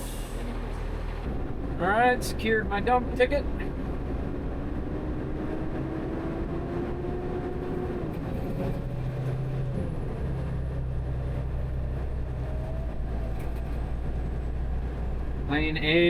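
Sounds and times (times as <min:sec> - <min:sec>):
garbage truck diesel engine: 0:00.0 - 0:16.0.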